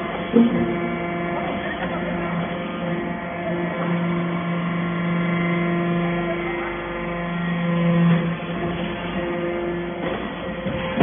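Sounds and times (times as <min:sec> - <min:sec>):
baling machine humming: 0:00.0 - 0:11.0.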